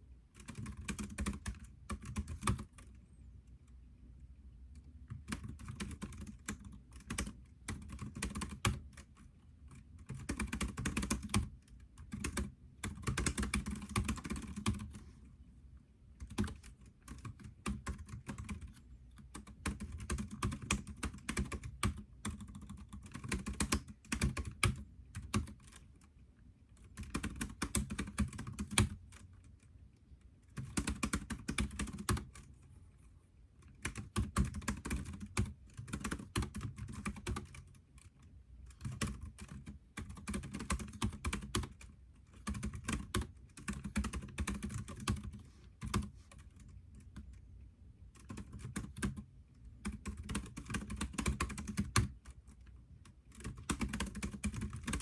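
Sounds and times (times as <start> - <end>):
computer keyboard typing: 0.4 - 3.0, 4.8 - 15.1, 16.1 - 26.1, 26.8 - 29.7, 30.5 - 32.6, 33.6 - 47.4, 48.1 - 55.0.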